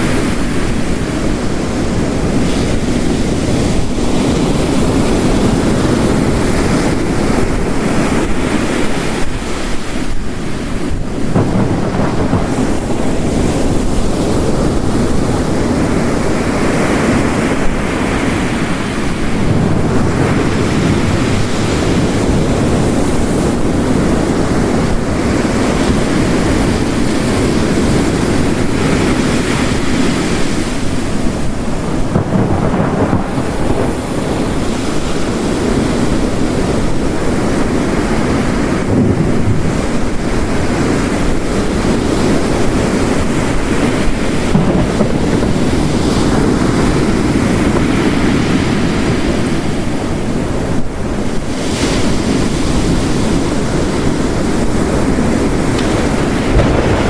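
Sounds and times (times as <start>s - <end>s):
heavy rain: 0.0s - 57.0s
ocean waves crashing: 0.0s - 57.0s.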